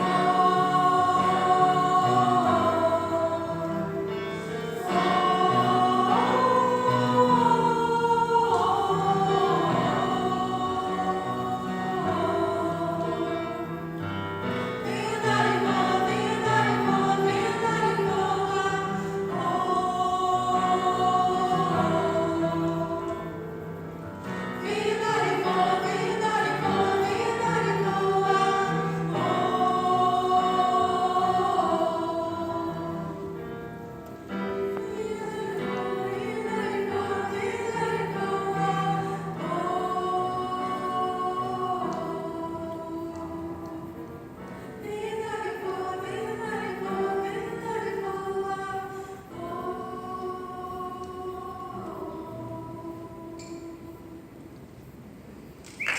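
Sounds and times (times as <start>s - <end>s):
choir singing: 0.0s - 55.4s.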